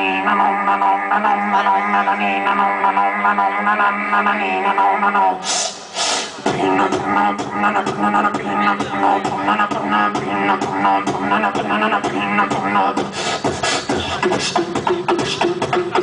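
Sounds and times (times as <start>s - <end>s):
beatboxing through a microphone: 0.0s - 16.0s.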